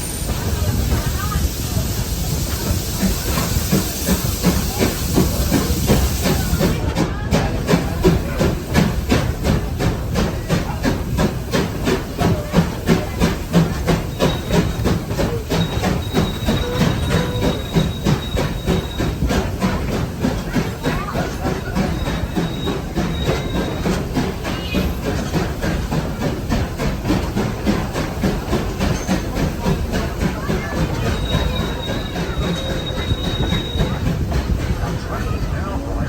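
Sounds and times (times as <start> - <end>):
rhythmic train clatter: 0.0 - 36.0
train hissing rush: 0.0 - 36.0.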